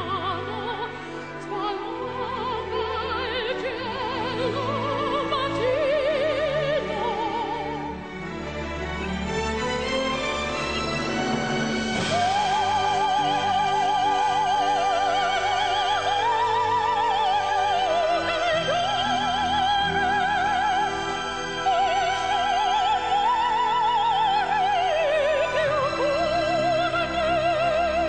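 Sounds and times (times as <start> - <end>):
woman singing operatic ballad: 0.0 - 8.1, 12.0 - 28.0
orchestral accompaniment: 0.0 - 28.0.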